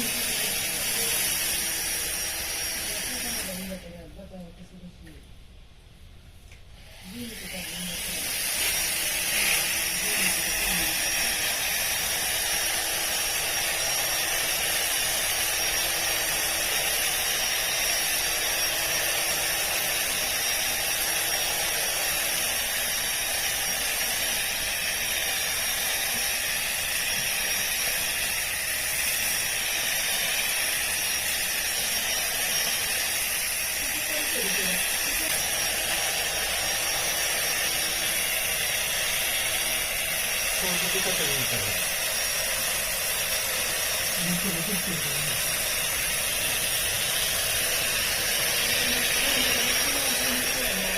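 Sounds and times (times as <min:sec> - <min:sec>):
grass trimmer cutting grass: 0:00.0 - 0:03.8, 0:06.8 - 0:50.9.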